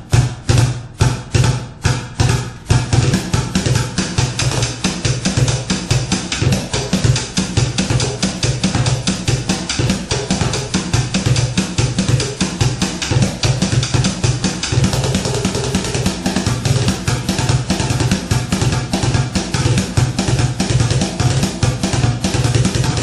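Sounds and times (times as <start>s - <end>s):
deep drum thuds: 0.0s - 23.0s.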